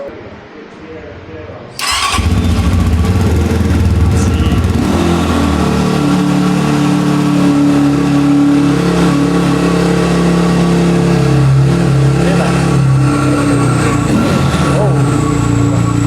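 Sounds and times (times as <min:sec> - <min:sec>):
dirt bike engine running: 0:01.8 - 0:16.0.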